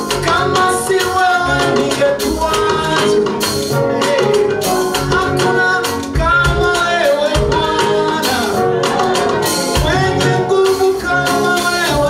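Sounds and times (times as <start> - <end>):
band playing upbeat song: 0.0 - 12.0
drums: 0.0 - 12.0
person singing: 0.0 - 12.0.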